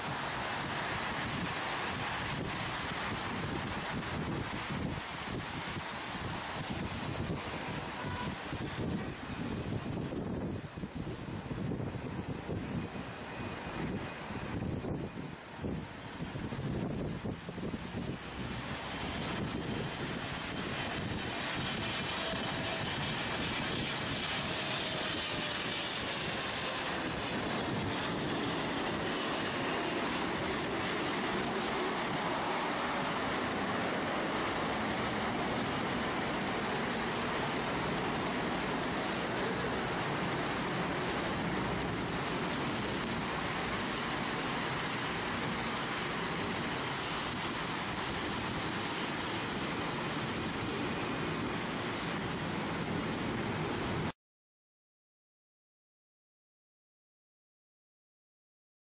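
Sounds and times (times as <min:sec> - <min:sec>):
distant jet engines: 0:00.0 - 0:54.1.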